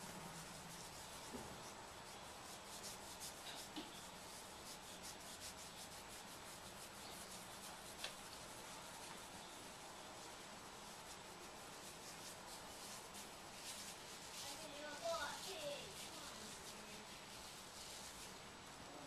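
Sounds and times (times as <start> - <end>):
fingers rustling through hair: 0.0 - 18.7.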